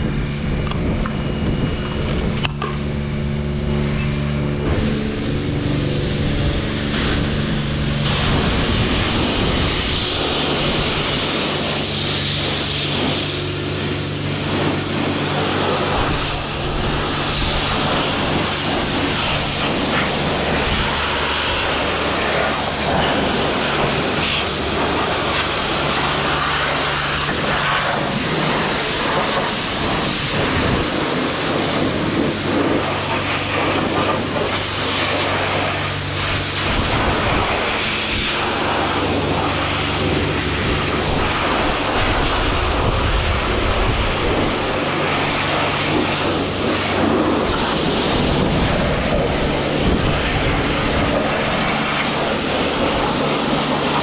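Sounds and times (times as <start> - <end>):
motorcycle engine running: 0.0 - 54.0
rushing wind: 0.0 - 54.0.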